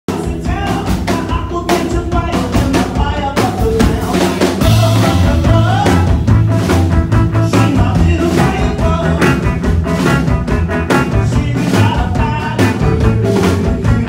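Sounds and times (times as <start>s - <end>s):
drums steady beat: 0.1s - 14.0s
electric guitar: 0.1s - 14.0s
plucked upright bass: 1.3s - 14.0s.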